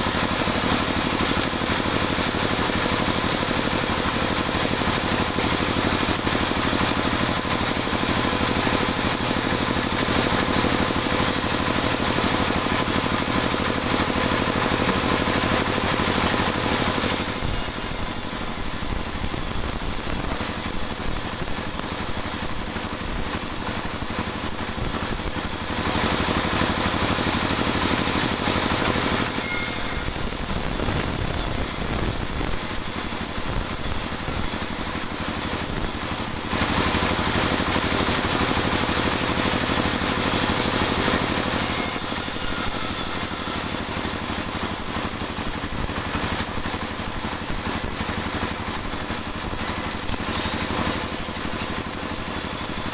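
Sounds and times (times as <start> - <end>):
band saw cutting wood: 0.0 - 52.9.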